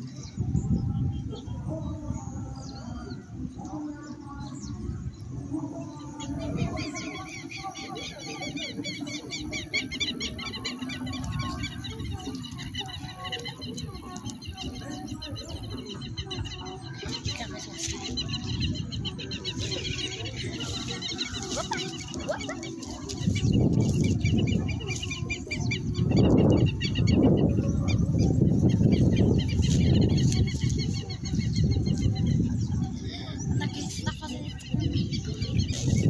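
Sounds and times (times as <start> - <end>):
birds chirping: 0.0 - 36.0
wind rumbling on microphone: 0.0 - 36.0.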